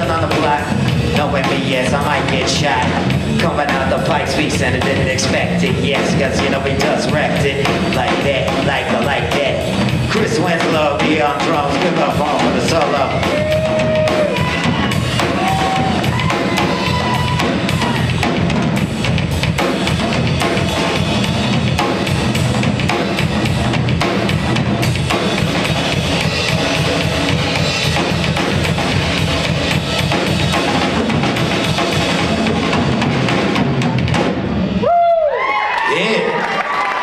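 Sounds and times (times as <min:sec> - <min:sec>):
drum kit kick and snare hits: 0:00.0 - 0:34.7.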